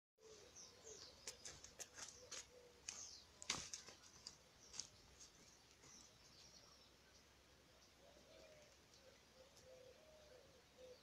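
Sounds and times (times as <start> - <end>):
songbirds chirping and whistling: 0.2 - 11.0.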